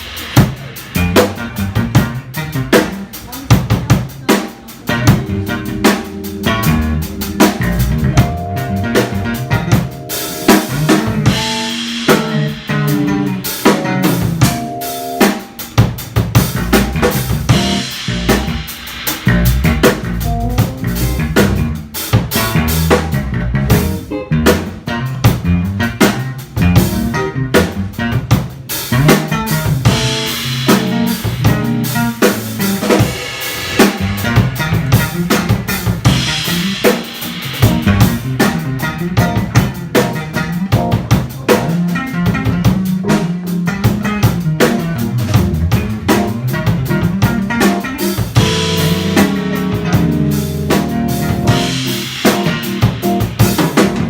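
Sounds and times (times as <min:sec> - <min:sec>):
bass line: 0:00.0 - 0:04.2, 0:04.8 - 0:54.0
drum kit: 0:00.0 - 0:54.0
jazz band playing: 0:00.0 - 0:54.0.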